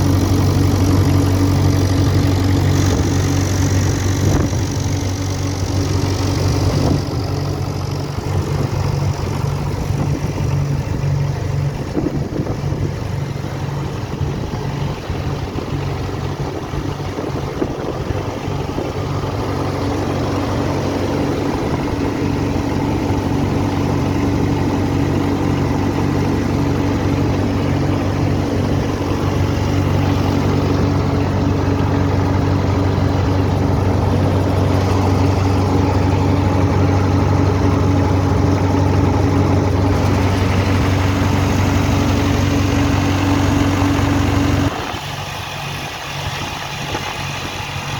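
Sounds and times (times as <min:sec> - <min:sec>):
diesel tractor engine idling: 0:00.0 - 0:47.9.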